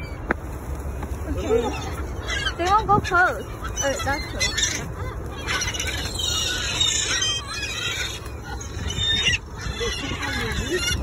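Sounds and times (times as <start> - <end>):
gulls squawking: 0.0 - 11.0.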